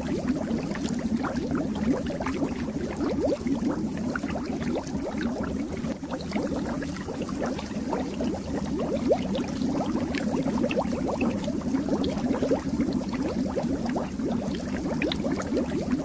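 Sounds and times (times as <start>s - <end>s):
fish tank water bubbling: 0.0s - 16.0s.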